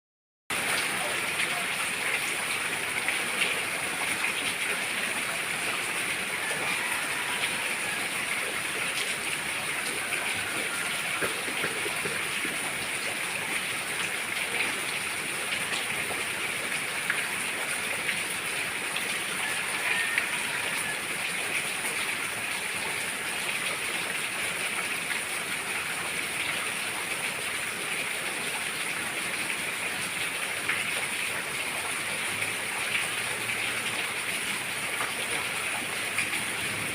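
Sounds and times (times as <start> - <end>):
steady rainfall: 0.5 - 36.9.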